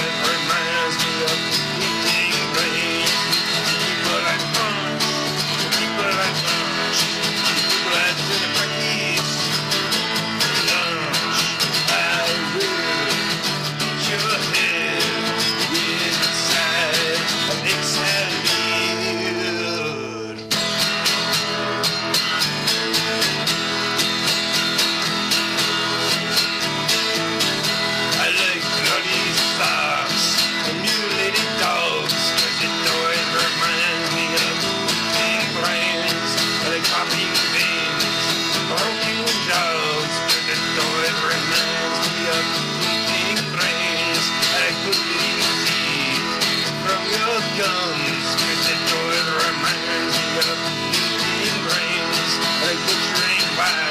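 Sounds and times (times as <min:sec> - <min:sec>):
man singing: 0:00.0 - 0:20.9, 0:25.0 - 0:53.9
acoustic guitar strumming: 0:00.0 - 0:53.9.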